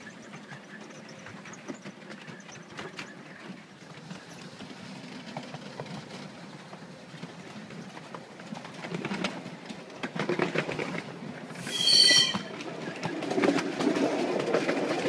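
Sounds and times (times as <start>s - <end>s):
miniature train rumble: 0.0s - 15.0s
wheels clicking on rails: 0.0s - 15.0s.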